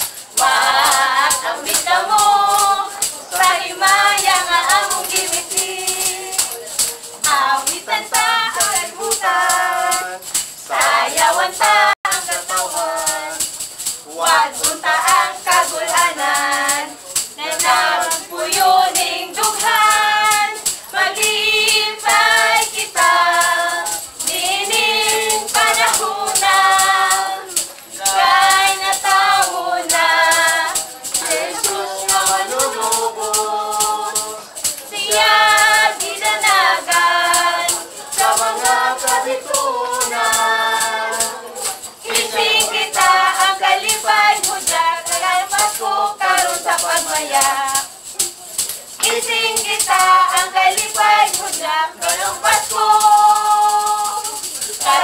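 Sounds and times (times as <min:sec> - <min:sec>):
women singing together: 0:00.0 - 0:48.2, 0:48.9 - 0:55.0
backing track with shaker beat: 0:00.0 - 0:55.0.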